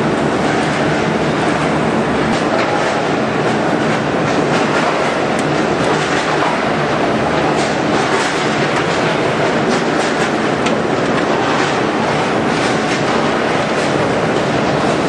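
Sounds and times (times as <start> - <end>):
packaging machine running: 0.0 - 15.0.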